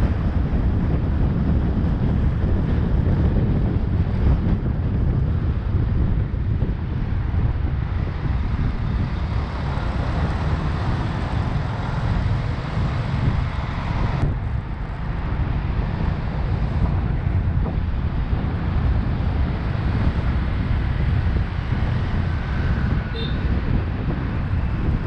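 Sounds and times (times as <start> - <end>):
road and traffic noise: 0.0 - 25.0
wind buffeting microphone: 0.0 - 25.0.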